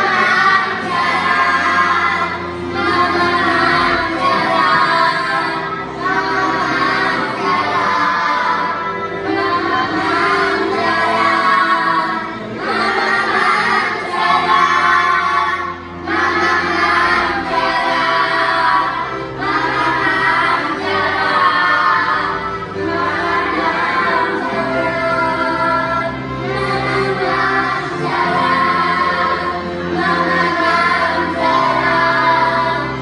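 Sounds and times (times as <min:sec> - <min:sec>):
children singing in chorus: 0:00.0 - 0:33.0
instrumental accompaniment: 0:00.0 - 0:33.0.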